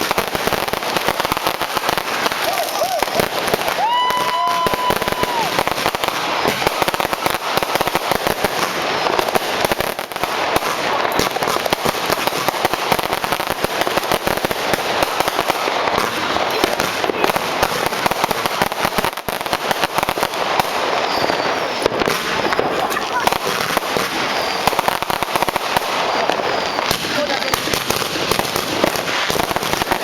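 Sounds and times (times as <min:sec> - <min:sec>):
fireworks crackling and banging: 0:00.0 - 0:30.0.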